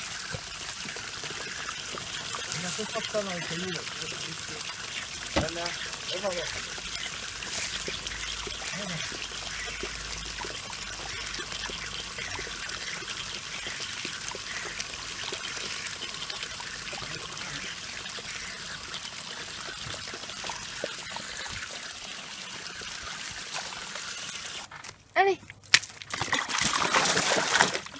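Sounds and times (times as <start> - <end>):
hose spraying water into pool: 0.0 - 24.8, 26.2 - 27.9.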